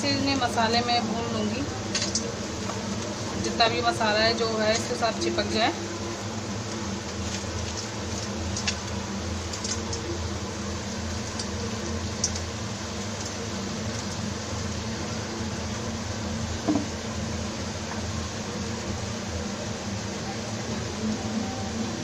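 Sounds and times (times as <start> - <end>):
potatoes sizzling in a pan: 0.1 - 22.0.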